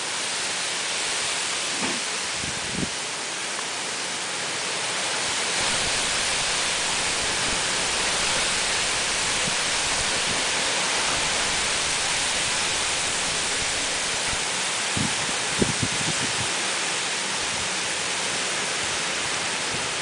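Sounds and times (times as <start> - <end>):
heavy rain and wind: 0.0 - 20.0.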